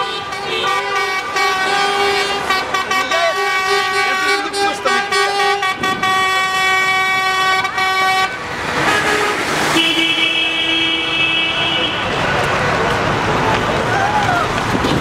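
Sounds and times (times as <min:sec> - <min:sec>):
vehicle horns honking: 0:00.0 - 0:12.2.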